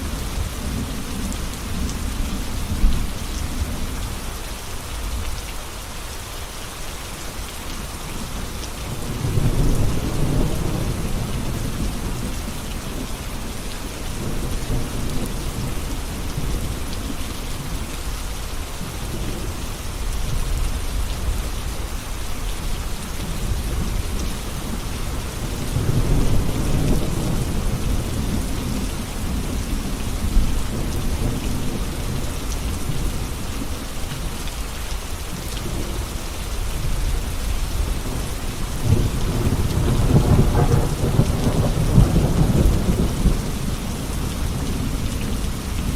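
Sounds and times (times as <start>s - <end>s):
heavy rain hissing: 0.0s - 45.9s.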